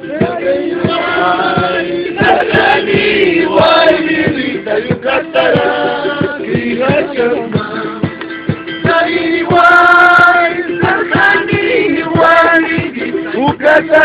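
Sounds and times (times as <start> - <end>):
group singing in chorus: 0.0 - 14.0
thudding beat: 0.0 - 14.0.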